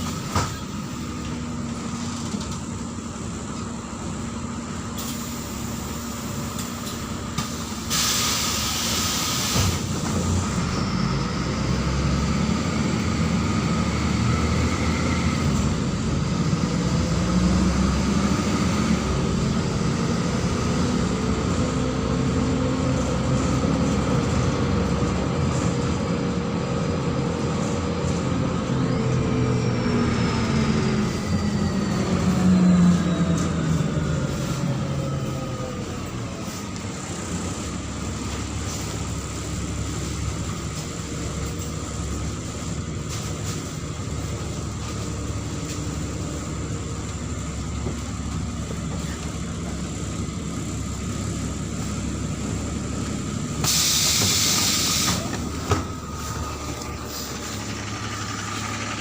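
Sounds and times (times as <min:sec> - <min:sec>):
bus diesel engine: 0:00.0 - 0:59.0
drivetrain whine: 0:09.7 - 0:59.0.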